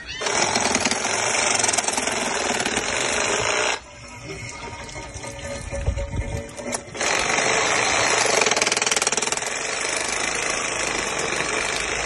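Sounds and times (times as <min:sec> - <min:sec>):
reciprocating saw cutting pipe: 0:00.2 - 0:12.0.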